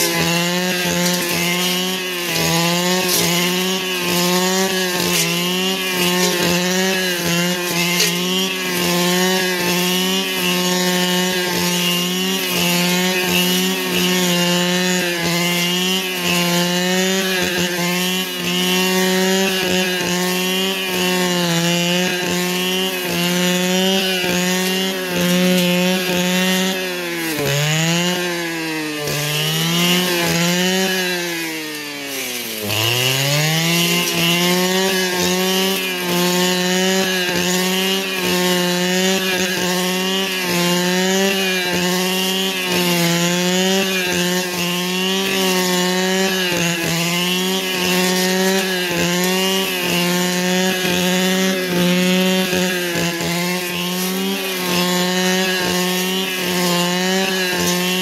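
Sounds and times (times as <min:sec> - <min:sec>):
small two-stroke engine high revs: 0:00.0 - 0:58.0.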